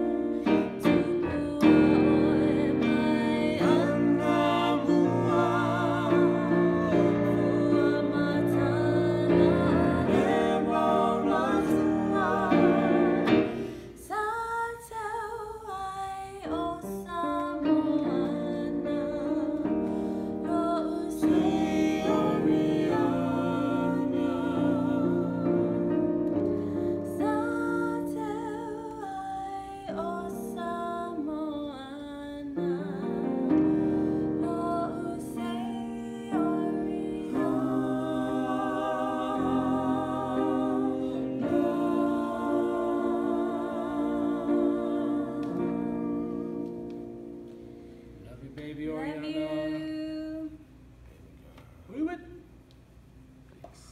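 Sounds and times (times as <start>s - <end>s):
person singing with vibrato: 0.0s - 46.9s.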